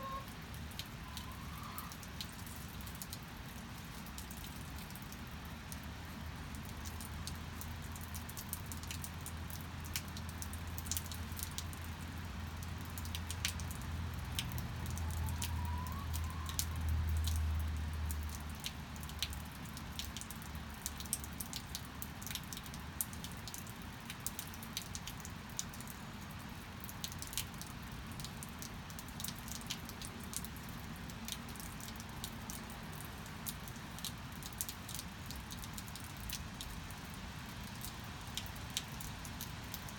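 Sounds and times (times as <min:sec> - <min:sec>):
steady rain with drips: 0:00.0 - 0:39.9.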